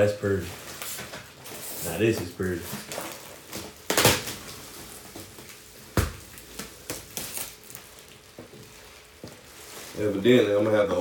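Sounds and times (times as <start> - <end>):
plastic film crinkling: 0.2 - 11.0.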